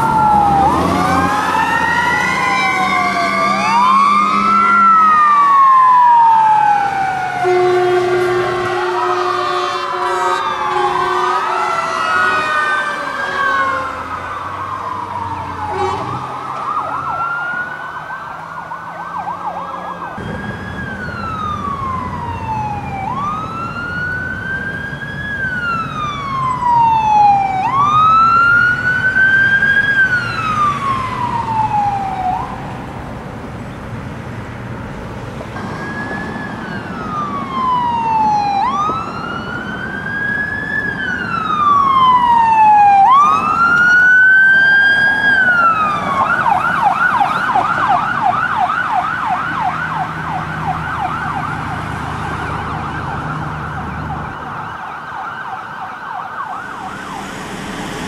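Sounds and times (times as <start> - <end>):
emergency vehicle siren: 0.0 - 58.0
road traffic: 0.0 - 58.0.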